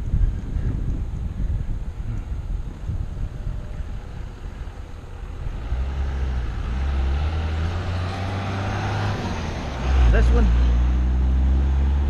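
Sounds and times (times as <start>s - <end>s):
road and traffic noise: 0.0s - 12.0s
wind rumbling on microphone: 0.0s - 12.0s.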